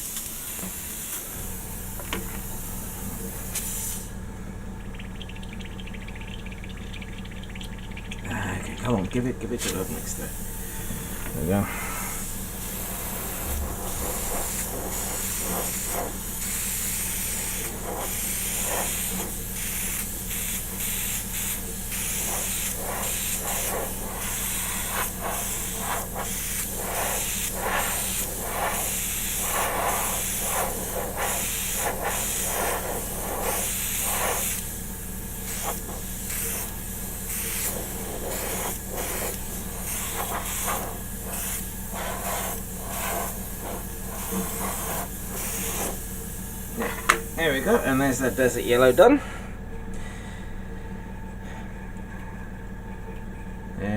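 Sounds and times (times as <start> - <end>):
airbrush spraying hiss: 0.0 - 4.2, 9.7 - 49.1.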